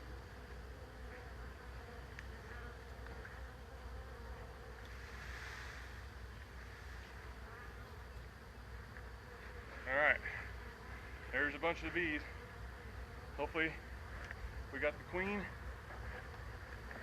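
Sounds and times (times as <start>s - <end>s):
swarm of bees buzzing: 0.0s - 17.0s.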